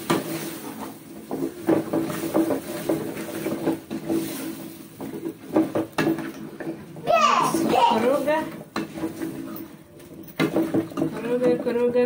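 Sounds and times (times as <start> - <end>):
wooden spoon scraping a pot: 0.0 - 12.0.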